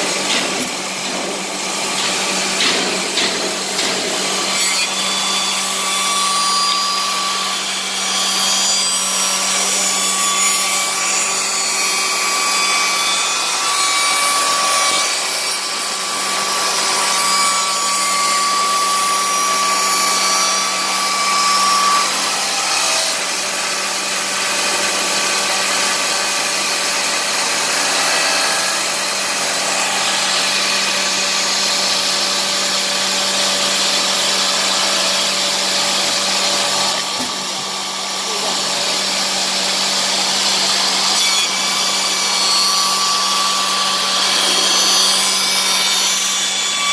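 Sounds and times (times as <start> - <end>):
wood shaper machining noise: 0.0 - 46.9.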